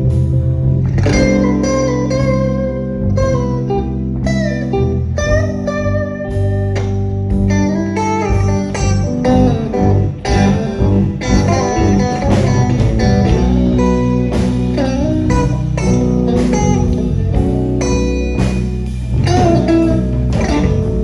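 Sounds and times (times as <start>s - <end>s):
blues band playing: 0.0s - 21.0s
electric guitar lead: 0.0s - 21.0s.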